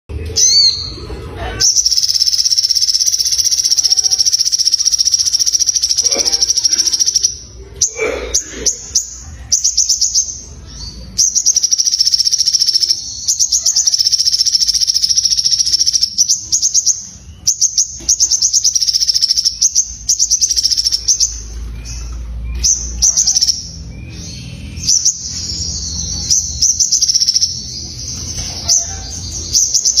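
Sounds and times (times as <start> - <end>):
songbird trilling chatter: 1.6 - 30.0.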